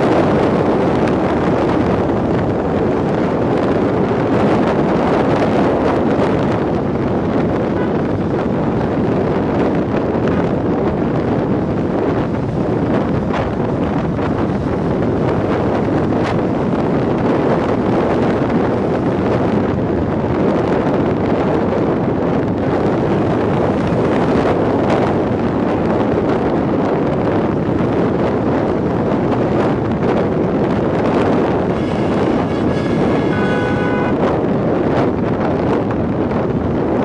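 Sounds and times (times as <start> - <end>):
road and engine noise: 0.0 - 37.0
wind rushing over microphone: 0.0 - 37.0.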